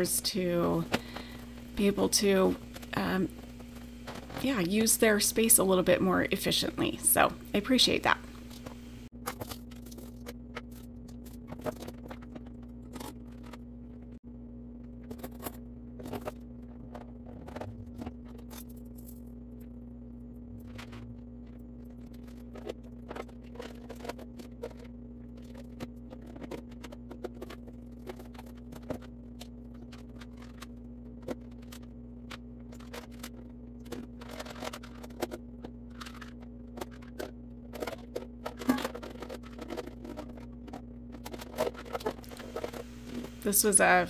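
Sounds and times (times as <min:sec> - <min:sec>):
low hum: 0:00.0 - 0:44.0.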